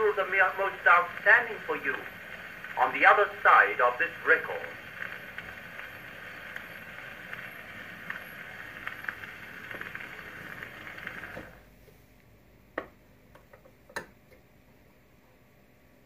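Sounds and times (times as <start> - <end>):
gramophone record surface hiss: 0.0 - 16.0.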